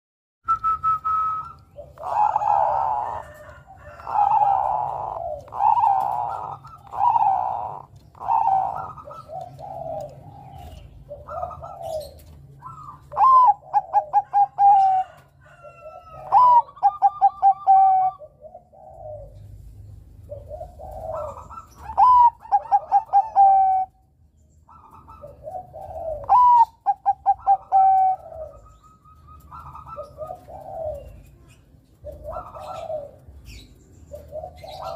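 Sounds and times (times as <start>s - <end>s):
dove song phrases: 0.6s - 34.9s
dove cooing: 0.8s - 34.9s.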